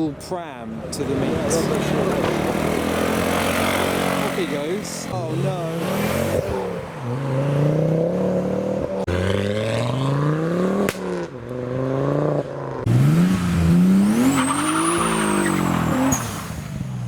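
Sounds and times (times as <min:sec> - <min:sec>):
car engine accelerating: 0:00.8 - 0:17.0.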